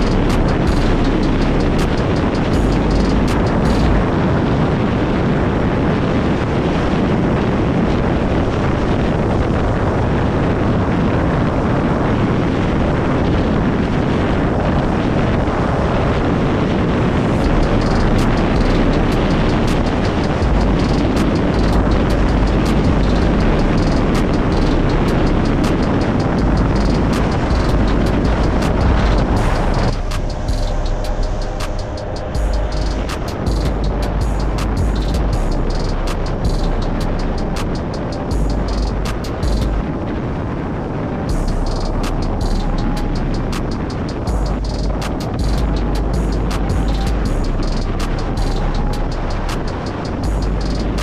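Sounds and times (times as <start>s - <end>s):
wind noise on microphone: 0.0s - 51.0s.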